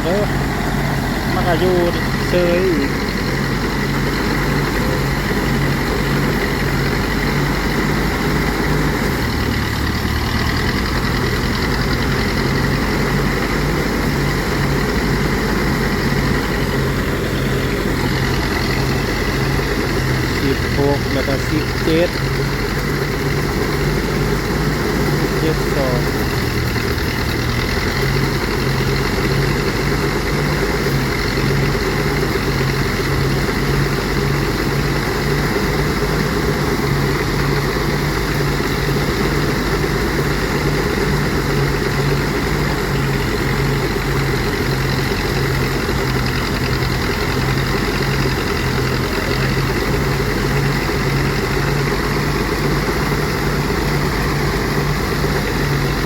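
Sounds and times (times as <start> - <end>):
threshing machine engine droning: 0.0 - 56.0.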